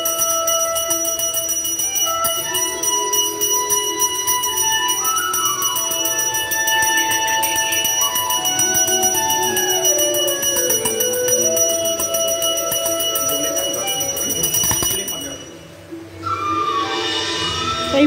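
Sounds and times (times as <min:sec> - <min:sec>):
hand bell ringing rapidly: 0:00.0 - 0:15.6
slow sliding melody: 0:00.0 - 0:18.0.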